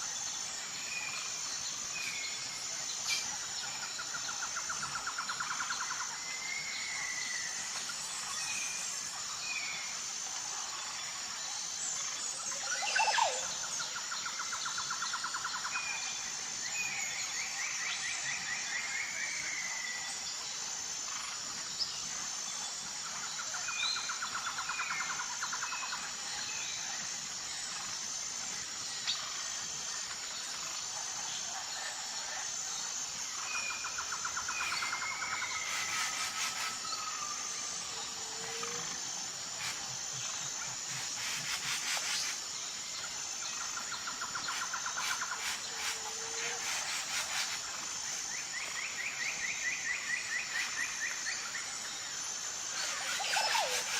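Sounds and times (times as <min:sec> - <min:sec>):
high insect chorus: 0:00.0 - 0:53.9.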